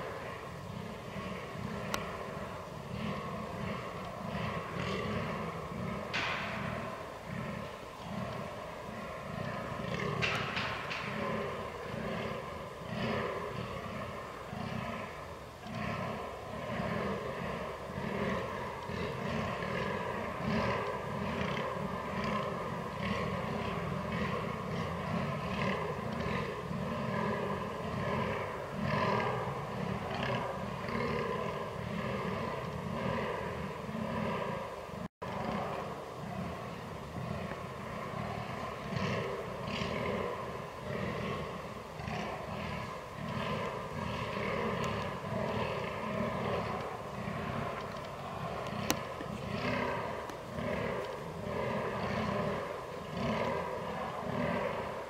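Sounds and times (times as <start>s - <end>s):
deer groaning: 0.0s - 55.0s.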